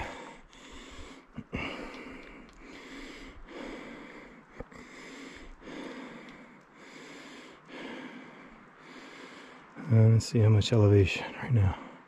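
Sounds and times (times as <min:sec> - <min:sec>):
heavy breathing: 0:00.0 - 0:10.0.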